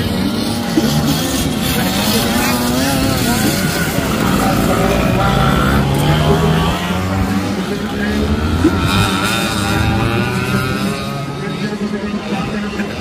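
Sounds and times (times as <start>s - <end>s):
scooter engines revving: 0.0s - 13.0s.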